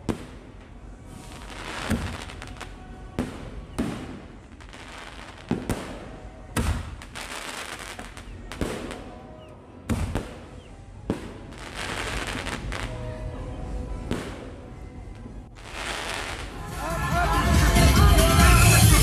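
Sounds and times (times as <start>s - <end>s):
fireworks bangs: 0.0s - 13.2s, 14.0s - 14.7s, 15.6s - 19.0s.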